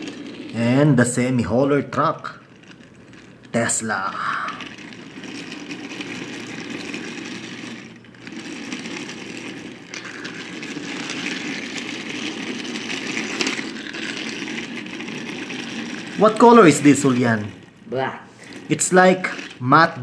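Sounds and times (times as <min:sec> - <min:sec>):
toy truck rough rumble: 0:00.0 - 0:20.0.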